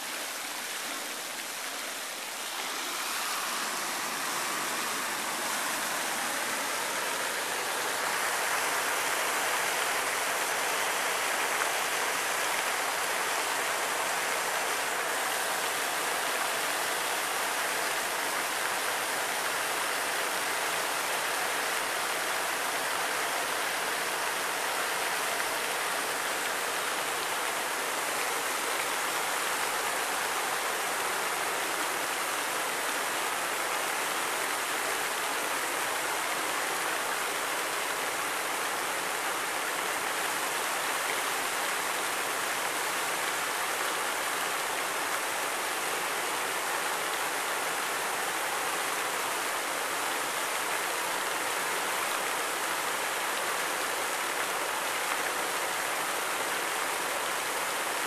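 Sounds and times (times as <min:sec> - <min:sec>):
water streams splashing into pool: 0:00.0 - 0:58.0.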